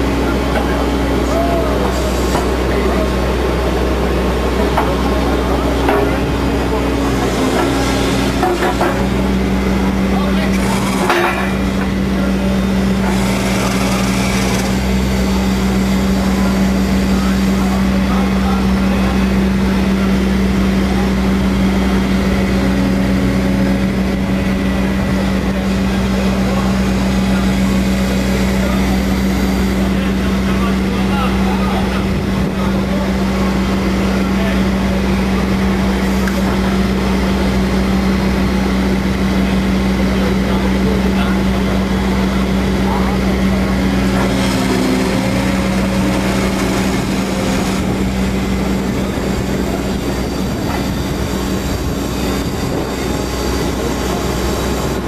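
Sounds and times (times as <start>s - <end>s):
excavator engine droning: 0.0s - 55.0s.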